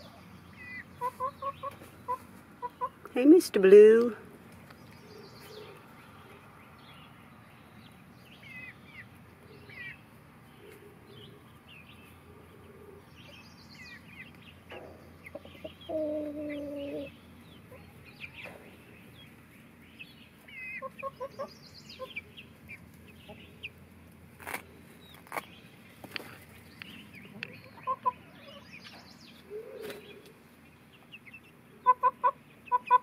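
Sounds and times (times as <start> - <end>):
chickens clucking: 0.0 - 33.0
chickens peeping and chirping: 0.0 - 33.0.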